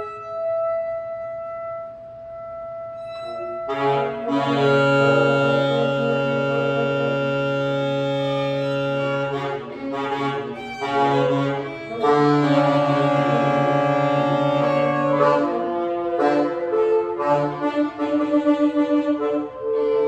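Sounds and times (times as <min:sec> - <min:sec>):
saxophones playing long tones: 0:00.0 - 0:20.0.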